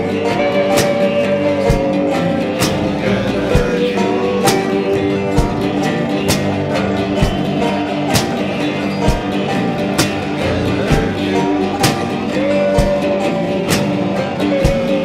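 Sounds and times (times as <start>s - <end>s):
plucked guitar music with beat: 0.0s - 15.0s.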